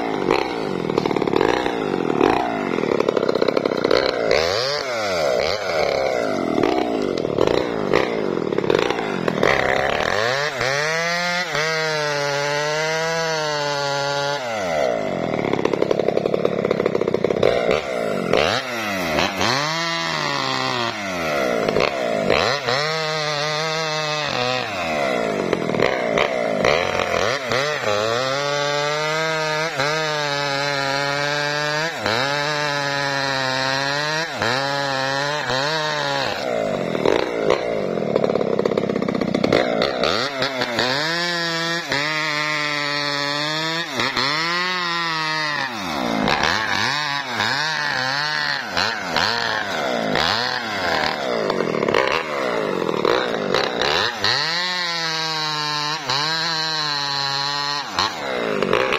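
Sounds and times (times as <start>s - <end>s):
chainsaw cutting through log: 0.0s - 58.9s.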